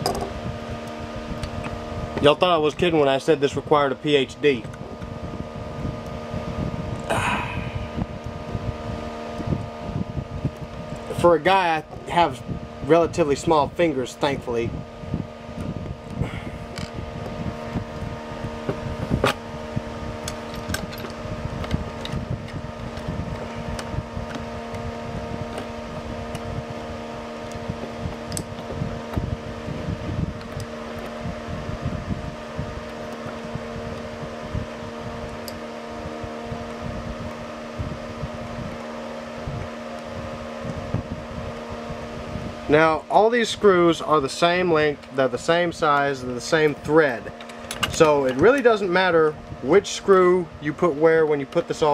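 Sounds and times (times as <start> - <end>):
steady mechanical hum: 0.0 - 51.9.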